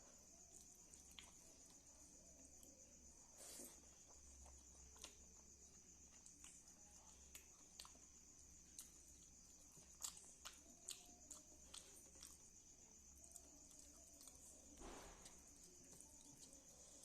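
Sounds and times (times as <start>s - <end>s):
chewing clicks and smacks: 0.5s - 1.8s, 4.0s - 16.7s.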